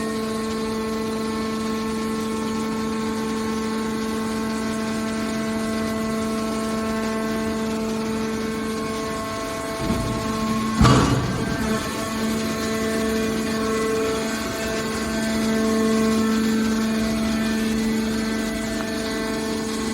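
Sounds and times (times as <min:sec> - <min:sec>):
machine hum with pitched tone: 0:00.0 - 0:19.9.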